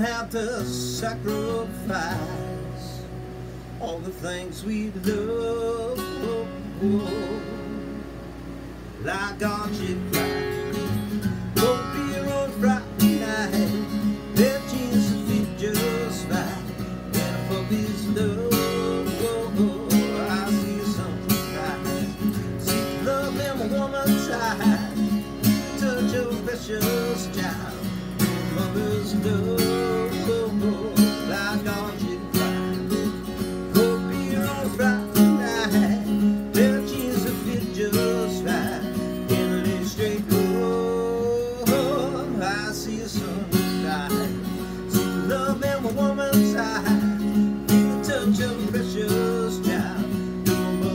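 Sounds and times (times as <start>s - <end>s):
acoustic guitar strumming: 0.0s - 50.9s
person singing: 3.8s - 7.8s, 11.6s - 50.9s.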